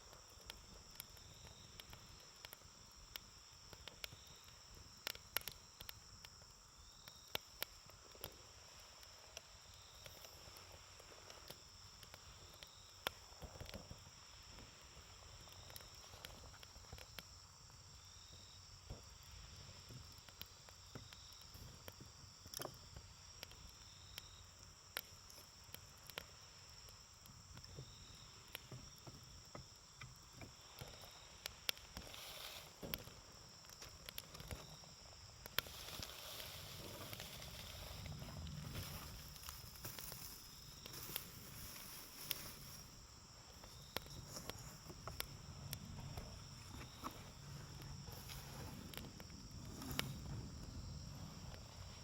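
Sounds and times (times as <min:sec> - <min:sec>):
campfire crackling: 0:00.0 - 0:52.0
insects trilling: 0:00.0 - 0:52.0.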